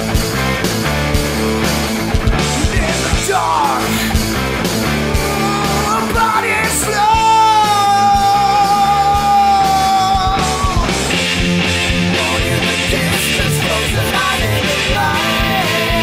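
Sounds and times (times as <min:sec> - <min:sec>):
rock song with singer: 0:00.0 - 0:16.0.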